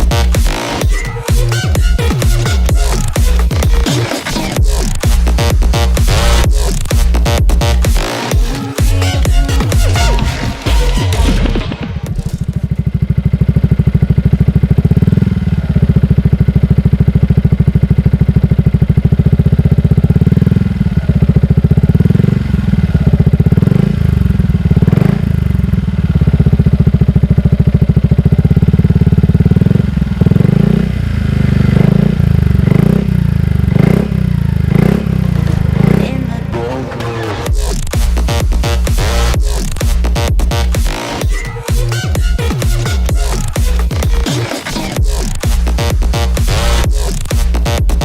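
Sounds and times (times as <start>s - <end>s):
motorcycle engine idling: 0.0s - 48.0s
motorcycle throttle blips: 0.0s - 48.0s.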